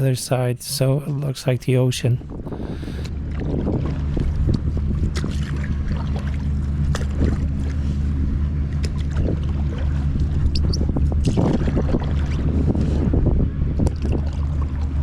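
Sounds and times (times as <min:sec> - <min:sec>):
low steady motor drone: 0:00.0 - 0:15.0.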